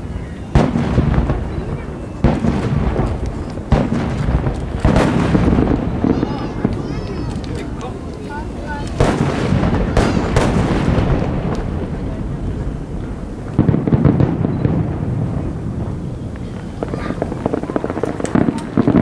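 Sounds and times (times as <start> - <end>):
fireworks booming: 0.0 - 19.0
fireworks crackling: 0.0 - 19.0.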